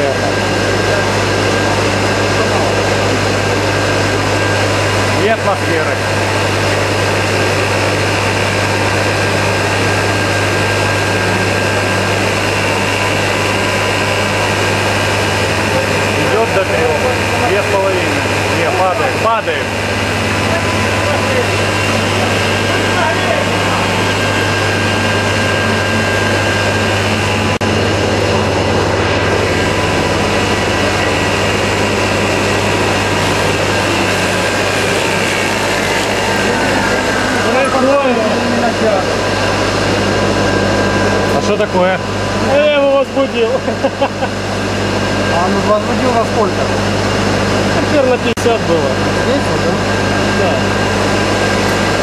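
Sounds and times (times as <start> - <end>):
low hum: 0.0 - 47.8
steam turbine rushing: 0.0 - 52.0.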